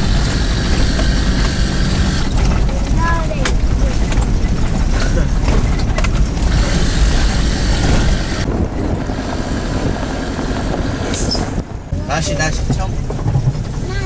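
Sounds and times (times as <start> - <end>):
vehicle rumbling over dirt trail: 0.0 - 14.0.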